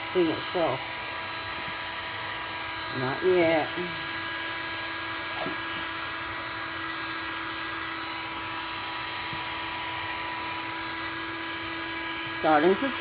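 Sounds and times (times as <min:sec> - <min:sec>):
heat gun blowing: 0:00.0 - 0:13.0.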